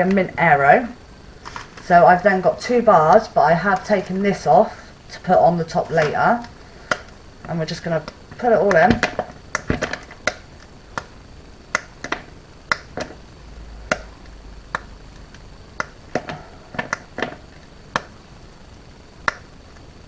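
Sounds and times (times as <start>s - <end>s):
chocolate bars snapping: 3.1s - 20.0s.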